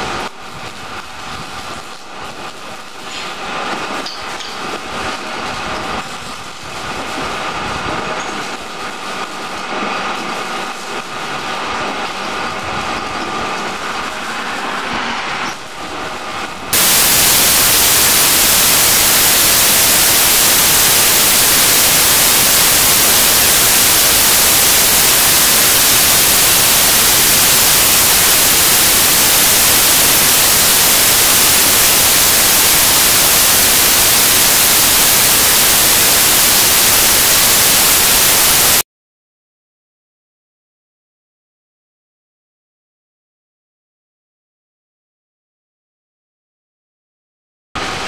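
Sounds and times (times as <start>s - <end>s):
loud static hiss: 0.0s - 38.8s, 47.8s - 48.0s.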